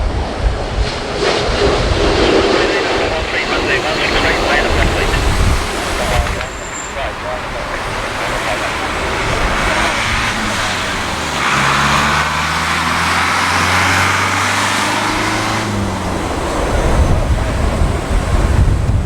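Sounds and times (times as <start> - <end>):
jet airliner engine roar: 0.0 - 19.0
wind buffeting microphone: 0.0 - 19.0.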